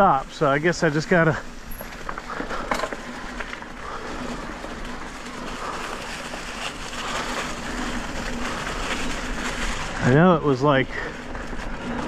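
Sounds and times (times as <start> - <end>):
bike clicks and rattles: 0.0 - 12.0
bike tyres on leaves and gravel: 0.0 - 12.0.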